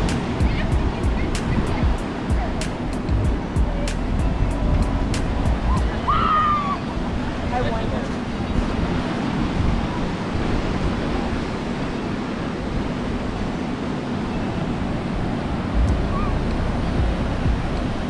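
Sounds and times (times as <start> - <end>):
ocean surf breaking: 0.0 - 18.0
wind rumbling on microphone: 0.0 - 18.0.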